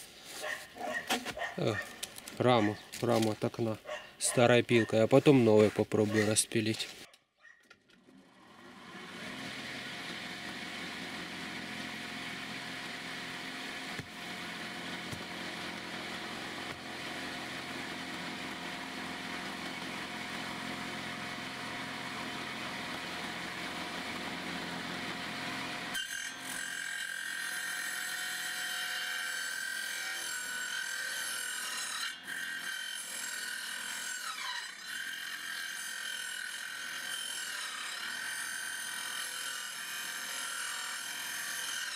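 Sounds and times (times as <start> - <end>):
circular saw cutting wood: 0.0 - 7.1, 8.0 - 41.9.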